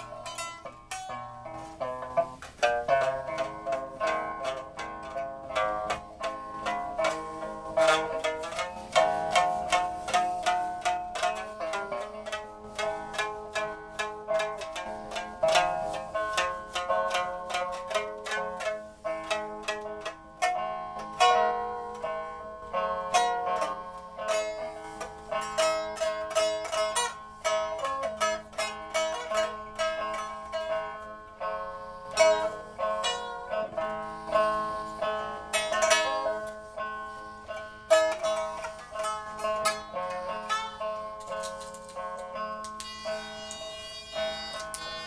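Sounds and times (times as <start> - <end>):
plucked zither notes: 0.0 - 45.0.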